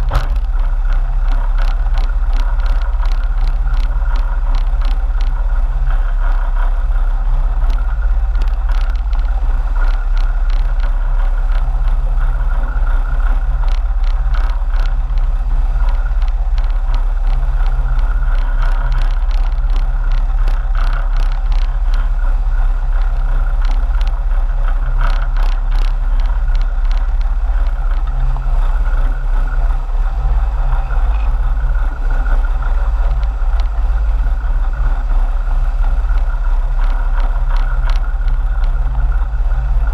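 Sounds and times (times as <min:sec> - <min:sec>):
boat engines droning: 0:00.0 - 0:39.9
boat wake water: 0:00.0 - 0:39.9.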